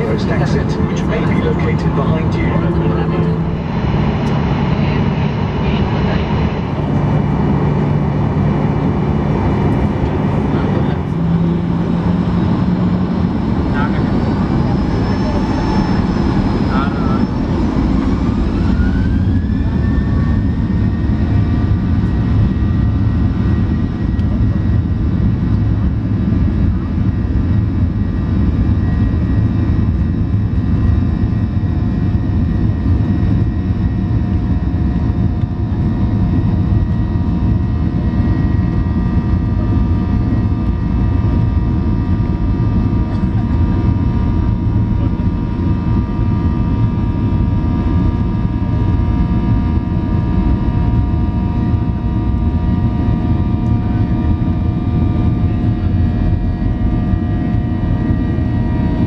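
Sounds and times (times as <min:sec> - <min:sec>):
jet engines rumbling in cabin: 0:00.0 - 0:59.0
steady whining tones: 0:00.0 - 0:59.0.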